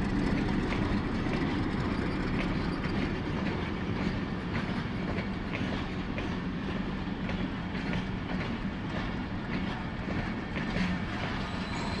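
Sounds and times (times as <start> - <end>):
train coaches rumbling past: 0.0 - 12.0
wheels clicking over rail joints: 0.0 - 12.0.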